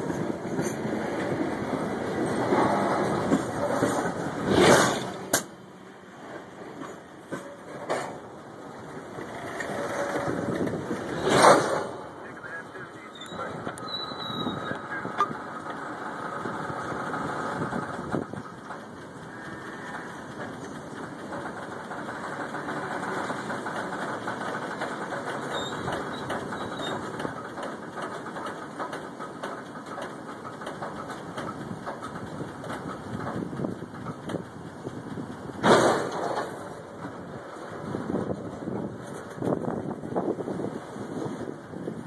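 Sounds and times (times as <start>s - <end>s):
diesel locomotive engine running: 0.0s - 42.0s.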